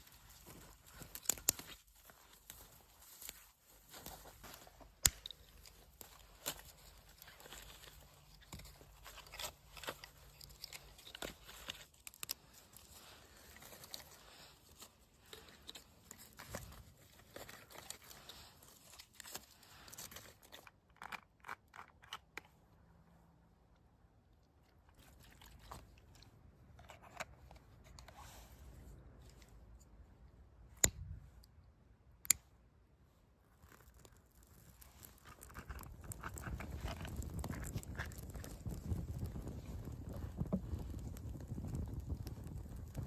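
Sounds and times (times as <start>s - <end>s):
crunches rustles and crinkling: 0.0s - 22.9s, 24.6s - 30.0s, 33.0s - 43.0s.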